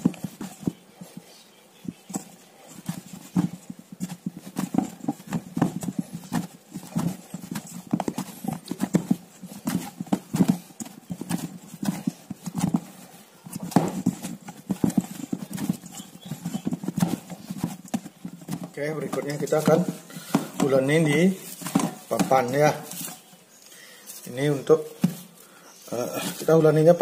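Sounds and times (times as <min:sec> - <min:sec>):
dough kneaded in a metal bowl: 0:00.0 - 0:23.4.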